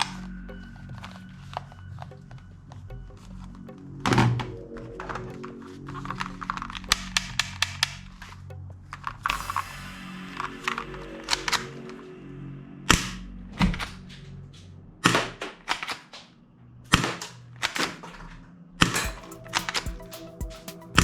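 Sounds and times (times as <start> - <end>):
background music: 0.0 - 15.2, 19.0 - 21.0.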